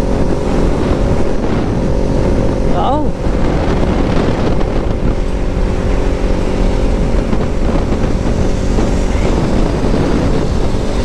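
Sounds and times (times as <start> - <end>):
motorcycle engine at high revs: 0.0 - 11.0
wind rushing over microphone: 0.0 - 11.0.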